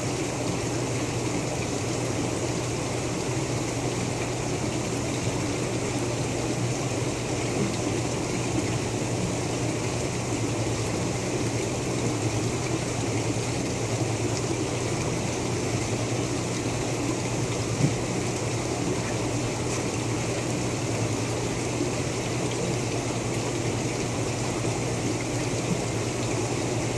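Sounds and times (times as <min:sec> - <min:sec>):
pump humming: 0:00.0 - 0:26.9
water trickling and bubbling: 0:00.0 - 0:26.9.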